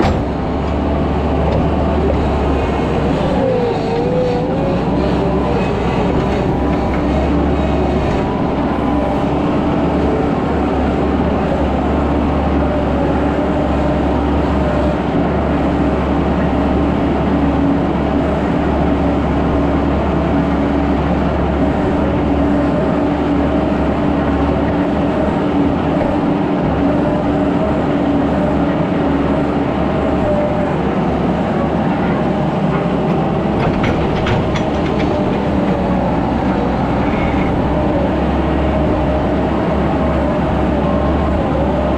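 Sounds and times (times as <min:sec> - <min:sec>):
skid steer engine droning: 0:00.0 - 0:41.9.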